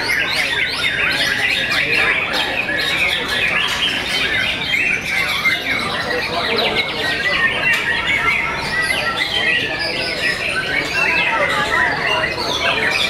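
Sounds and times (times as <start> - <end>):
birds singing in chorus: 0.0 - 13.0.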